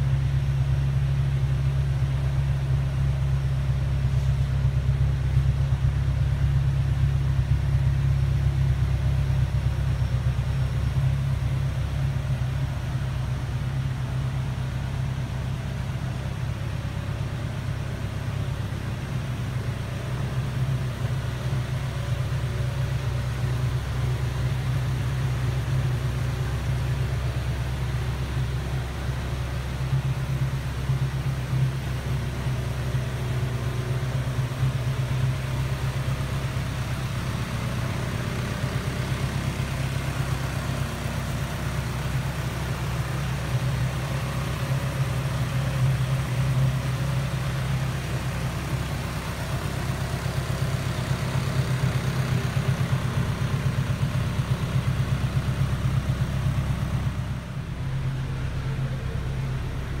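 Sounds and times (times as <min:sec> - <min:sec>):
car engine idling: 0:00.0 - 1:00.0.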